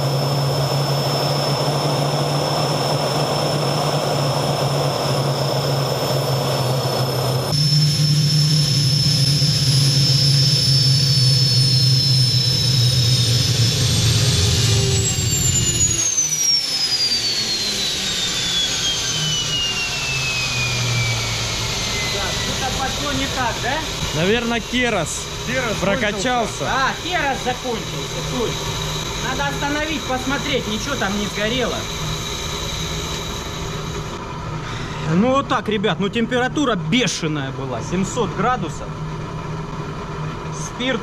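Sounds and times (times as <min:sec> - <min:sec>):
low engine drone: 0:00.0 - 0:41.0
turbine whine: 0:00.0 - 0:41.0.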